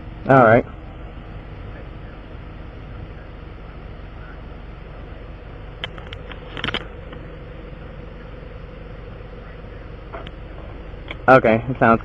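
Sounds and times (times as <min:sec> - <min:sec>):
vehicle humming: 0:00.0 - 0:12.0.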